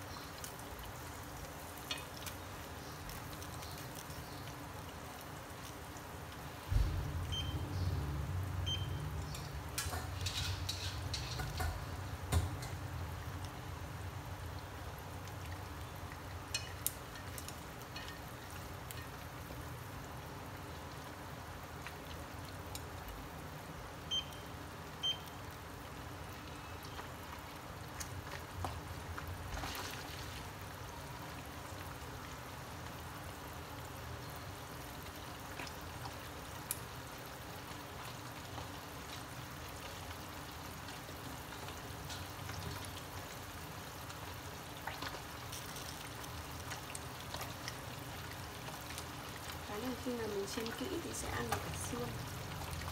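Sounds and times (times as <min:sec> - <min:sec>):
hot oil sizzling with frying fish: 0:00.0 - 0:52.9.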